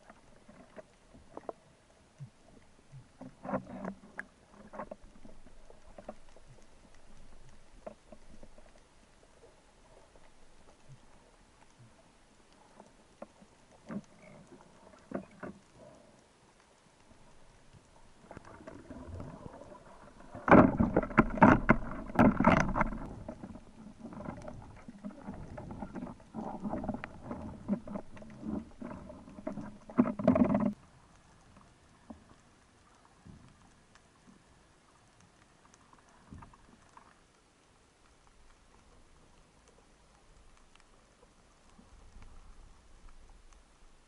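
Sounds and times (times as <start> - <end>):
rushing and sloshing water: 0.0 - 44.0
underwater clicking and crackling: 0.0 - 44.0.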